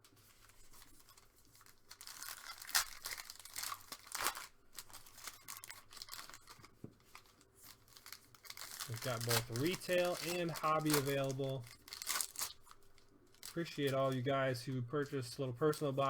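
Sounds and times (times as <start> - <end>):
wrappers crinkling: 0.0 - 16.0
wrapper ripping: 0.1 - 14.5.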